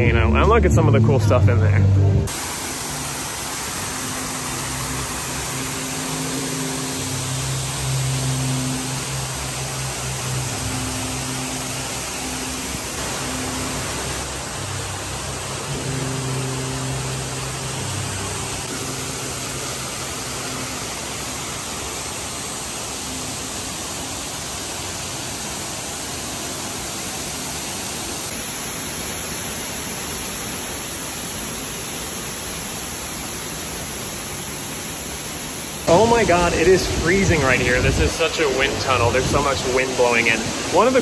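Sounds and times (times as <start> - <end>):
waterfall rushing over rocks: 2.3 - 41.0.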